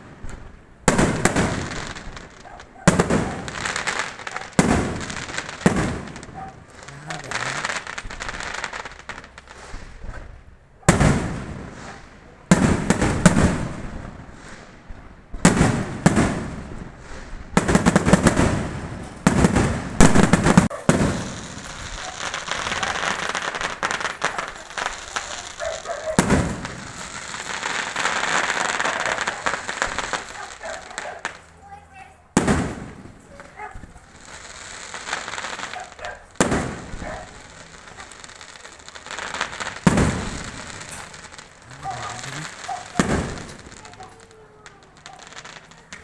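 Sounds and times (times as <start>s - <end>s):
fireworks bangs: 0.0s - 46.0s
fireworks rapid crackling: 0.0s - 46.0s.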